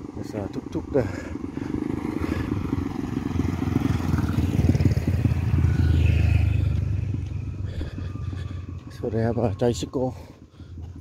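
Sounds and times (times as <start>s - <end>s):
motorbike engines passing by: 0.0s - 10.2s.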